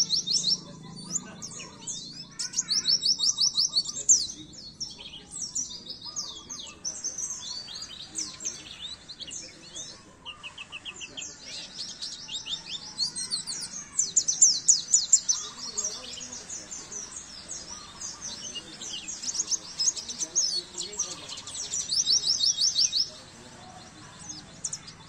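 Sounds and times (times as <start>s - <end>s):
small bird twittering song: 0.0s - 25.0s.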